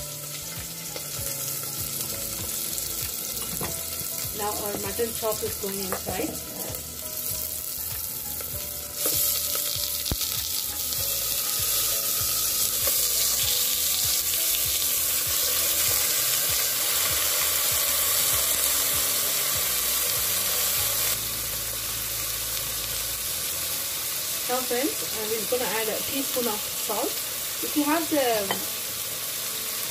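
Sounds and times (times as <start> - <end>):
meat sizzling in hot oil: 0.0 - 29.9.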